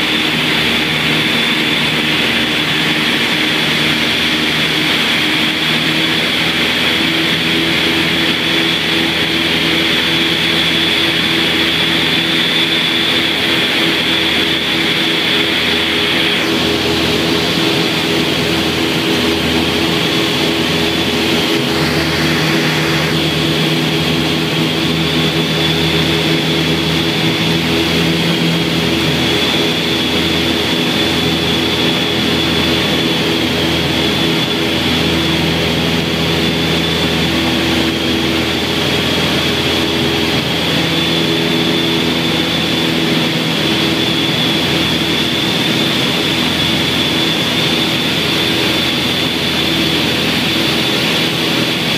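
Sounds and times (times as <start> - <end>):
aircraft engines droning: 0.0 - 51.9
steady high whine: 0.0 - 51.9.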